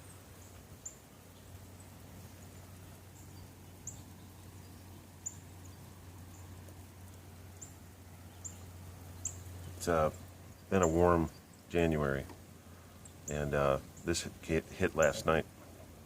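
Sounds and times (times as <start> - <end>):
low hiss and hum: 0.0 - 16.0.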